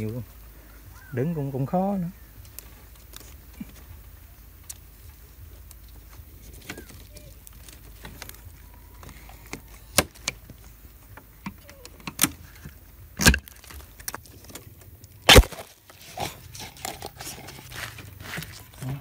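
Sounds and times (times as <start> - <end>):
dry twigs crackling: 0.0 - 19.0
bamboo cracking and snapping: 2.4 - 19.0.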